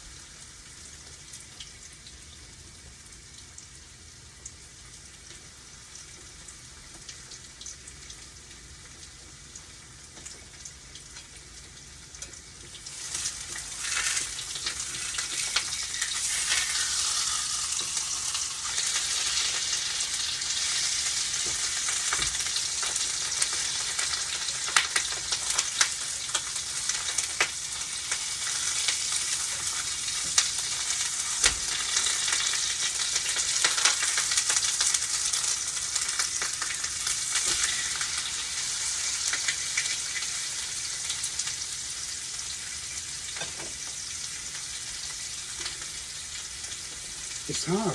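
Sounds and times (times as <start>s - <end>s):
tofu sizzling in hot oil: 0.0s - 47.9s.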